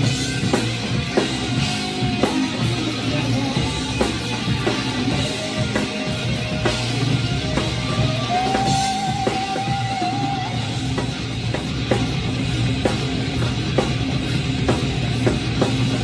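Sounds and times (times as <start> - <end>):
drum kit playing: 0.0 - 16.0
hard rock recording: 0.0 - 16.0.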